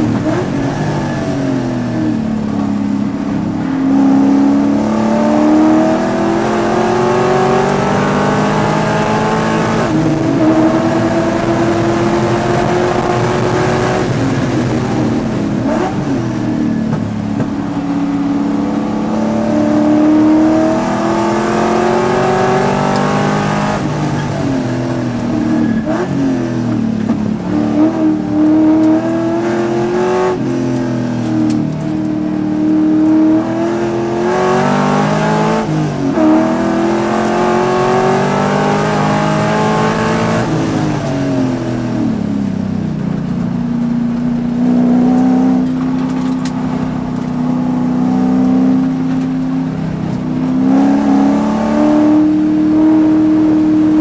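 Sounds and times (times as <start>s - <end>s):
race car engine accelerating: 0.0s - 42.5s, 43.4s - 54.0s.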